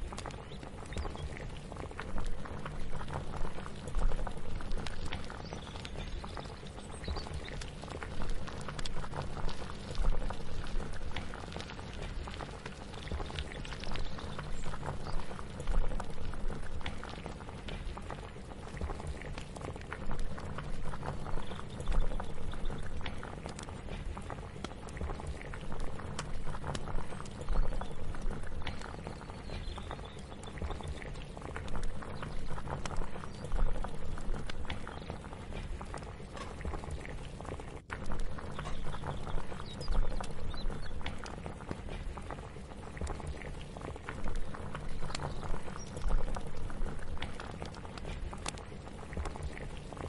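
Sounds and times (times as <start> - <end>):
pot bubbling on the boil: 0.0 - 50.0.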